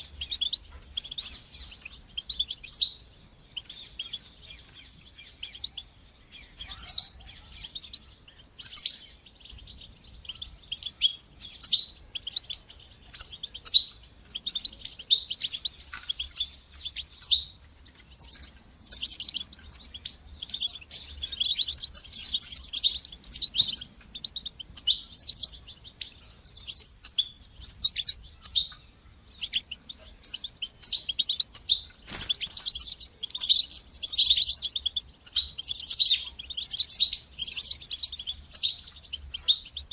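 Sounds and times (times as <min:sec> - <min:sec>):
goldfinch chirps and trills: 0:00.0 - 0:39.9.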